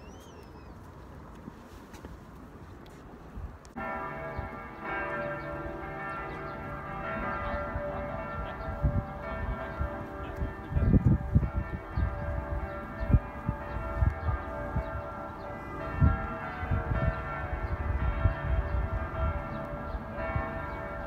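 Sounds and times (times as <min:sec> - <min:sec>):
wind buffeting microphone: 0:00.0 - 0:21.0
bells ringing: 0:03.8 - 0:21.0.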